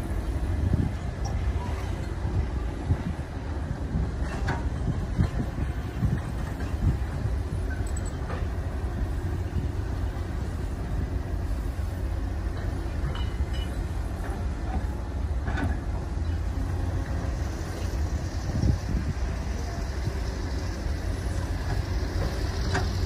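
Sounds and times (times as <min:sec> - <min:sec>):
excavator diesel engine: 0:00.0 - 0:23.0.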